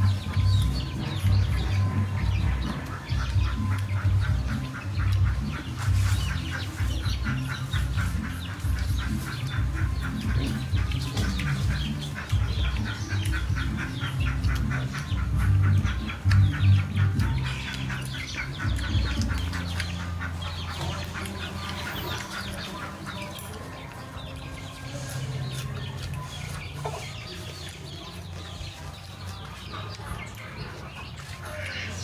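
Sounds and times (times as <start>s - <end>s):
fowl clucking and calling: 0.0s - 32.0s.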